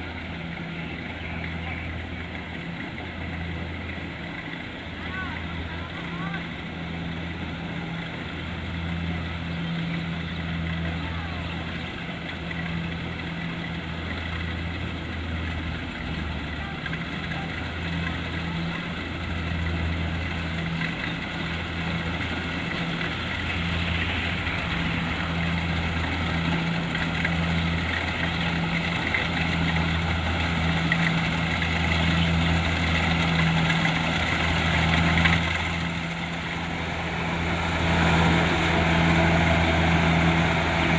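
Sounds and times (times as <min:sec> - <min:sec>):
combine harvester diesel engine: 0:00.0 - 0:40.9.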